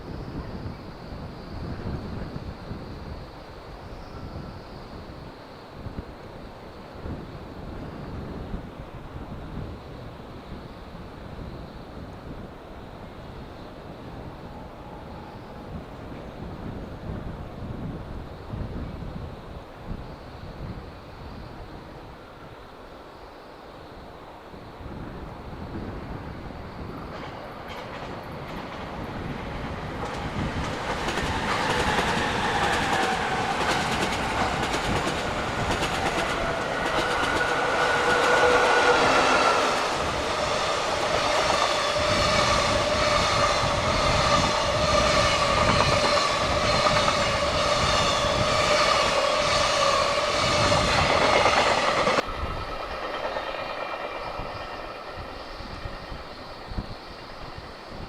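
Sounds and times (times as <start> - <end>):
electric locomotive humming: 0.0 - 58.0.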